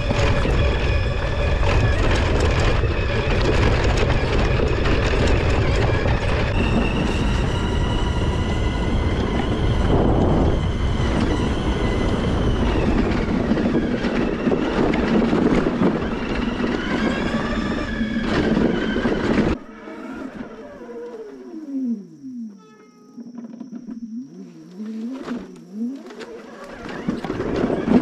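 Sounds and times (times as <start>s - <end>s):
tyres rumbling on rough ground: 0.0s - 22.2s, 23.2s - 28.0s
electric drive whining: 0.0s - 28.0s.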